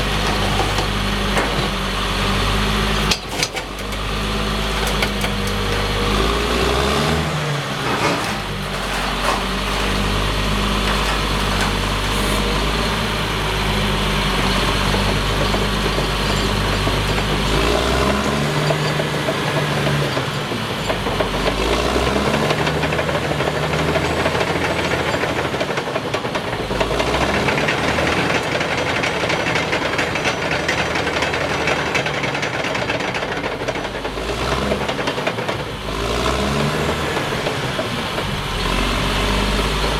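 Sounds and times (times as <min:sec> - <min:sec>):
rattling clatter: 0:00.0 - 0:01.8, 0:03.0 - 0:06.3, 0:07.8 - 0:39.9
bulldozer diesel engine running: 0:00.0 - 0:39.9.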